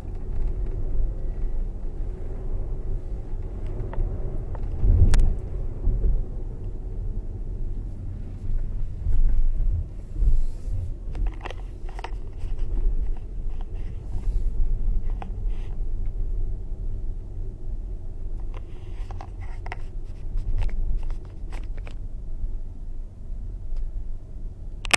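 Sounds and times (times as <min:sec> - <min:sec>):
tyre and road noise in car: 0:00.0 - 0:24.9.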